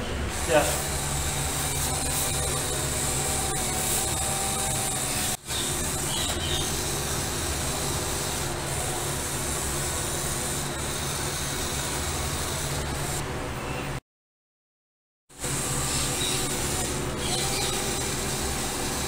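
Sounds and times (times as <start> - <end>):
toy motor and gears whirring: 0.3 - 13.2, 15.4 - 19.0.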